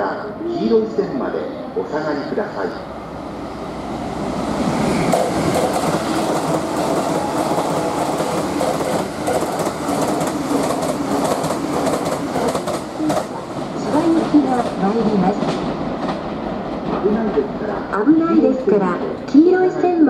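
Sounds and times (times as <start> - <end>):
train passing rush: 0.0 - 20.0.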